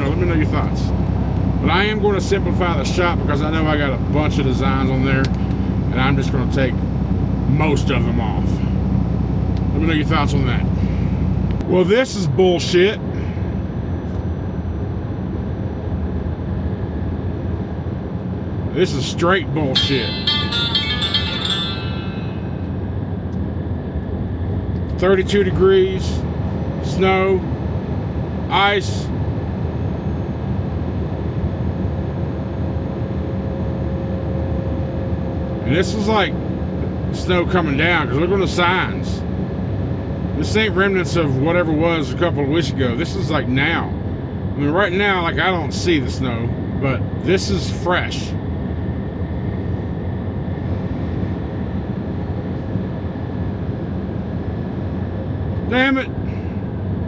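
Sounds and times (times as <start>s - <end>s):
faint steady whine: 0.0s - 57.0s
truck engine and road noise: 0.0s - 57.0s.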